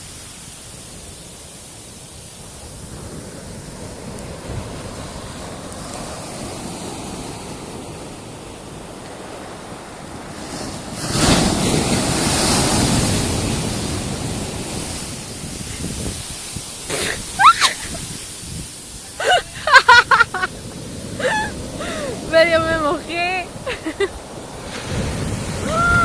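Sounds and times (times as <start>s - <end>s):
ocean waves washing: 0.0s - 26.0s
wave breaking: 2.4s - 26.0s.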